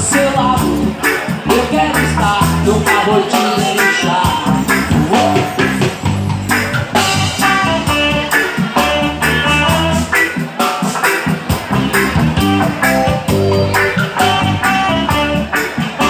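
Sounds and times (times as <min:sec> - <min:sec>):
bass guitar: 0:00.0 - 0:16.0
drum kit beat: 0:00.0 - 0:16.0
guitar chords: 0:00.0 - 0:16.0.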